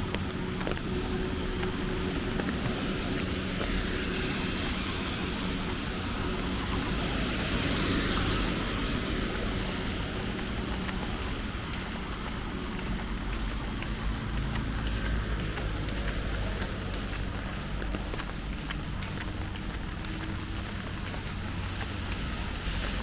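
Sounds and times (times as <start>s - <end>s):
road traffic: 0.0s - 23.0s
steady rain: 0.0s - 23.0s
tyre hiss on wet road: 0.8s - 23.0s.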